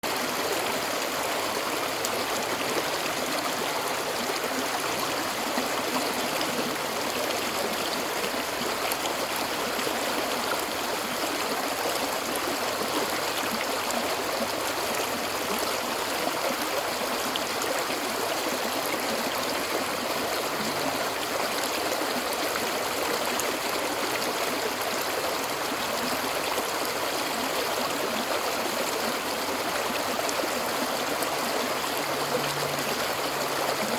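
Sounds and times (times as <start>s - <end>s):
water rushing: 0.0s - 33.9s.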